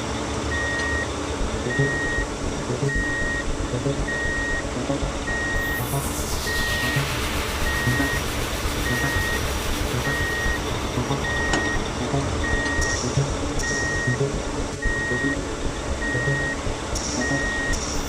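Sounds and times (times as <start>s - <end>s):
rumbling motor: 0.0s - 18.0s
truck reversing alarm beeping: 0.5s - 15.4s, 16.0s - 17.8s.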